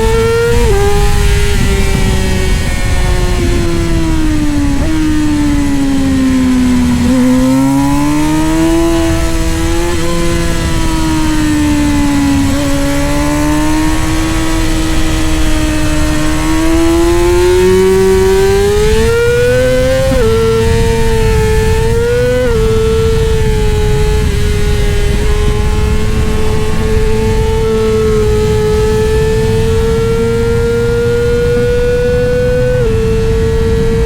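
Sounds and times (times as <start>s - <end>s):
motorcycle engine revving: 0.0s - 34.0s
wind rushing: 0.0s - 34.0s.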